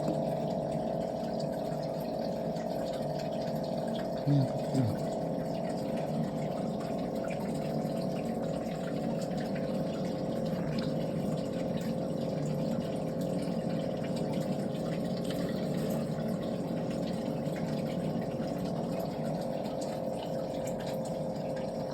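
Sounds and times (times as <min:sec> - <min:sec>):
whirring mechanical pump hum: 0:00.0 - 0:21.9.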